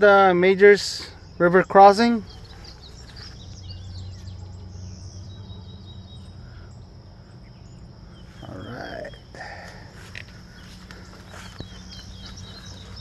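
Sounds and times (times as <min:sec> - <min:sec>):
small birds chirping: 0:00.0 - 0:13.0
insect buzz: 0:02.3 - 0:13.0.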